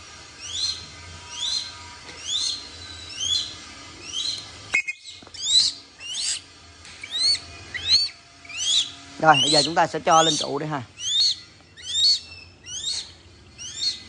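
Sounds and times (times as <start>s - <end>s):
young hawk calling: 0.4s - 14.0s.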